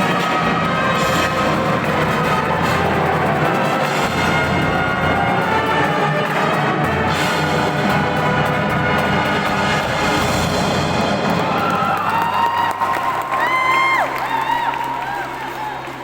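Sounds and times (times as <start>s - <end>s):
marching band drums: 0.0s - 12.9s
marching band brass: 0.0s - 16.0s.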